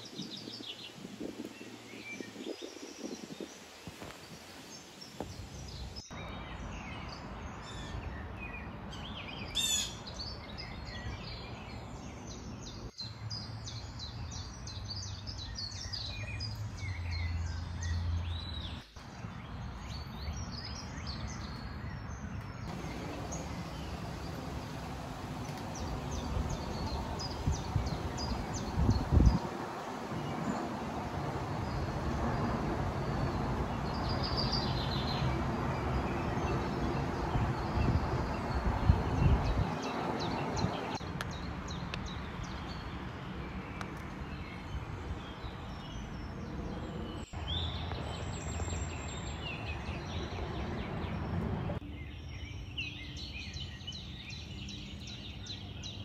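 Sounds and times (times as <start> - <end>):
outdoor background hiss: 0.0 - 56.0
songbirds chirping: 0.0 - 56.0.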